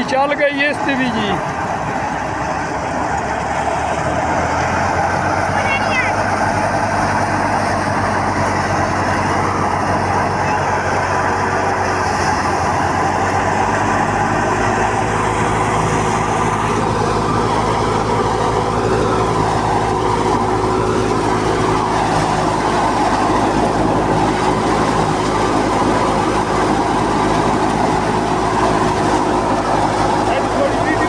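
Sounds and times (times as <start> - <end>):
thresher running: 0.0 - 31.0.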